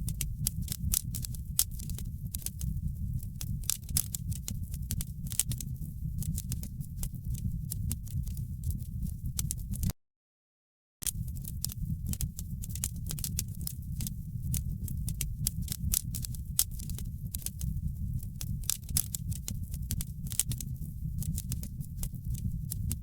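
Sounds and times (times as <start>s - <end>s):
wood fire crackling: 0.0s - 9.9s, 11.0s - 23.0s.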